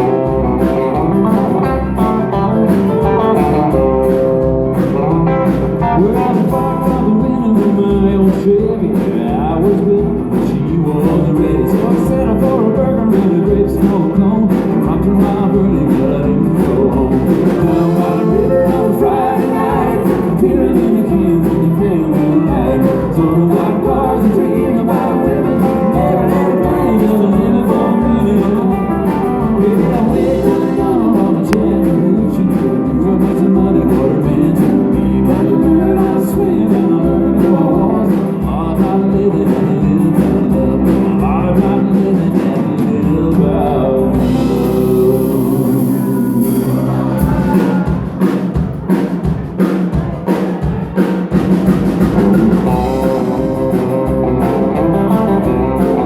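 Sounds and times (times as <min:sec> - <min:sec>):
country-rock band playing: 0:00.0 - 0:56.0
person singing: 0:00.0 - 0:56.0.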